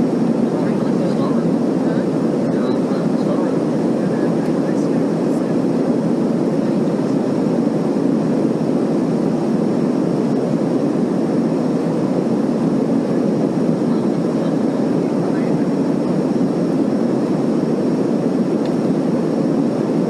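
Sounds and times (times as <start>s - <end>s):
airliner cabin engine drone: 0.0s - 20.0s.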